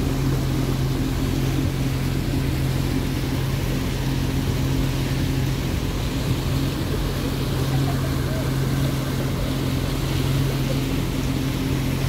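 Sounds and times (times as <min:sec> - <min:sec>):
boat motor droning: 0:00.0 - 0:12.0
rush of wind and water: 0:00.0 - 0:12.0.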